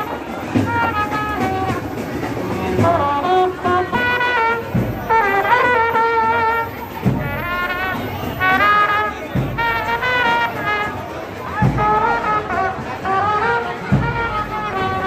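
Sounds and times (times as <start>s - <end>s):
low drum beat: 0.0s - 6.2s, 7.0s - 15.0s.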